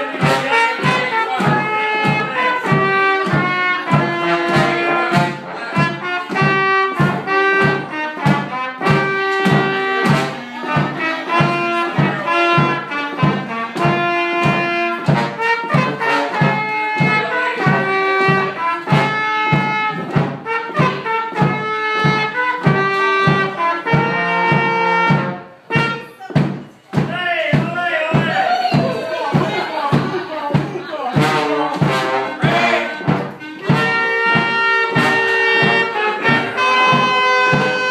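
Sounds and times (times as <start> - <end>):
bass drum beat: 0.0 - 37.9
oompah band playing: 0.0 - 37.9.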